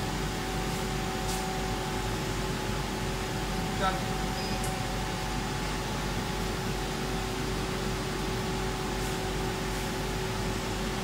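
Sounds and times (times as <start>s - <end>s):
fan-like machine hum: 0.0s - 11.0s.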